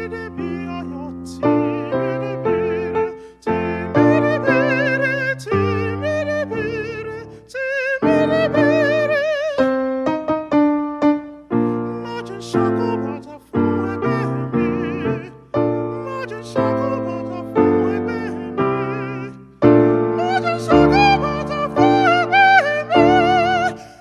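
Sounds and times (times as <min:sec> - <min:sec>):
person singing with vibrato: 0:00.0 - 0:09.9, 0:11.2 - 0:24.0
piano chords: 0:00.0 - 0:24.0.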